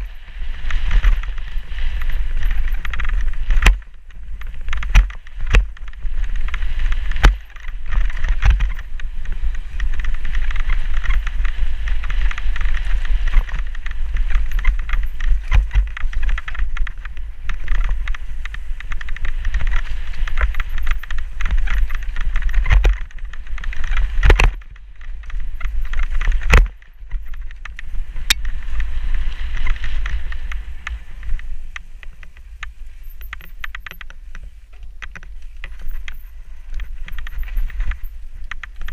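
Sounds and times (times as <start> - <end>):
bike rattling and knocking: 0.0 - 38.9
bike tyres rumbling over dirt: 0.0 - 38.9
wind buffeting microphone: 0.0 - 38.9.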